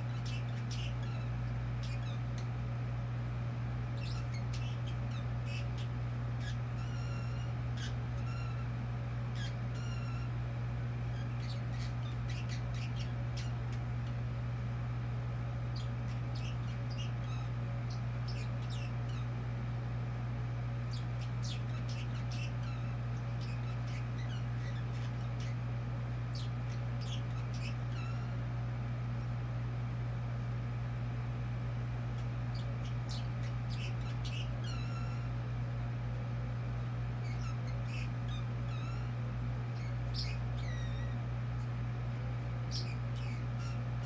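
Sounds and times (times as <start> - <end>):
pet chattering chirps: 0.0 - 2.6, 3.8 - 14.3, 15.4 - 19.6, 20.6 - 28.7, 32.0 - 35.6, 37.0 - 41.8, 42.4 - 44.0
steady low hum: 0.0 - 44.0.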